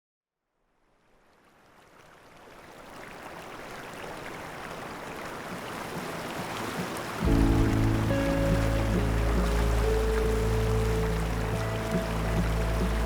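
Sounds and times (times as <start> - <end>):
water rushing: 2.1 - 13.0.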